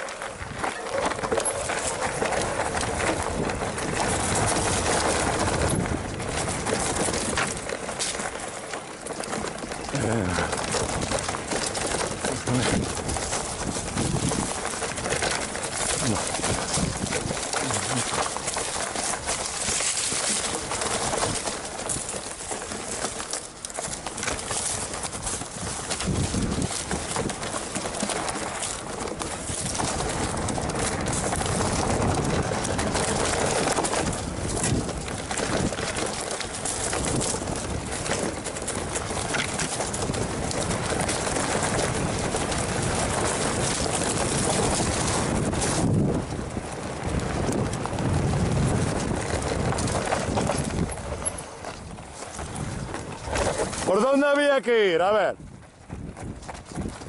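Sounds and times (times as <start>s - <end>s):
wind buffeting microphone: 0.0s - 8.5s, 9.1s - 57.0s
bike clattering and rattling: 0.0s - 57.0s
tyres rolling over dirt and stones: 0.0s - 57.0s.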